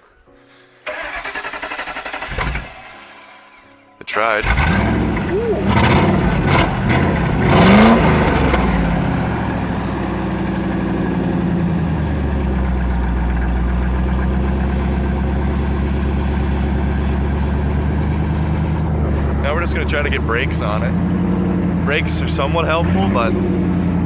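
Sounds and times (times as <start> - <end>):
pickup truck engine revving and idling: 4.4 - 24.0.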